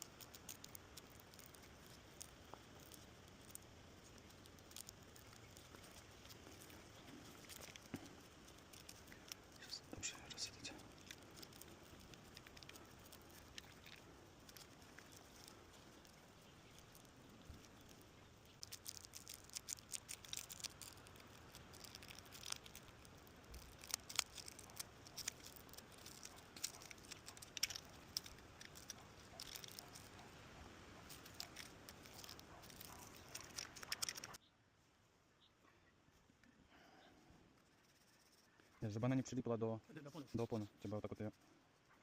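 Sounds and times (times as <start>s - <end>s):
hands crinkling and scratching: 0.0s - 34.4s, 36.1s - 42.0s.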